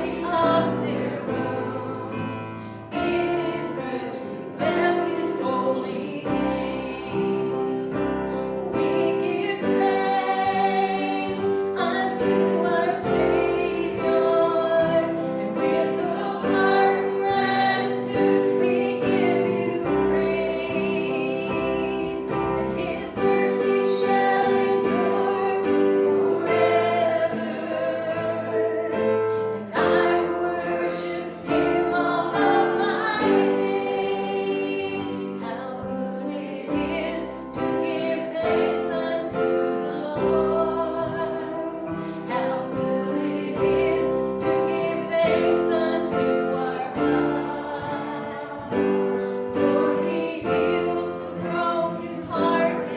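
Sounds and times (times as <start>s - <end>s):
worship song with instruments: 0.0s - 52.9s.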